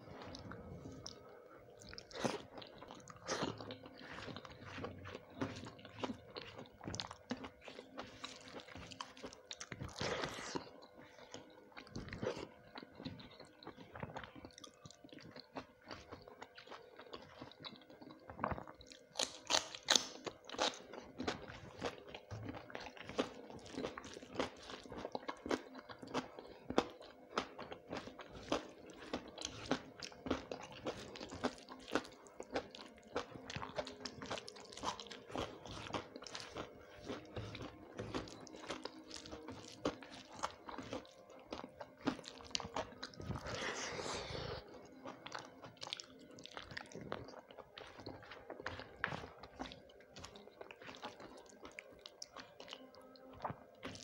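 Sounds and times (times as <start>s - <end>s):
crunchy chewing: 0.1s - 54.0s.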